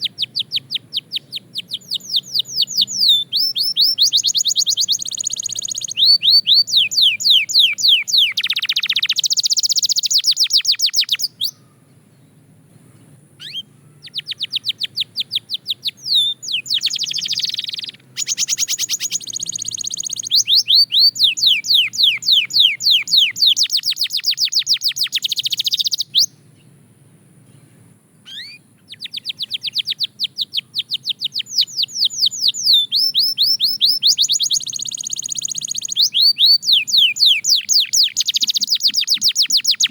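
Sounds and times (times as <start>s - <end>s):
canary singing trills: 0.0s - 26.8s, 27.4s - 39.9s.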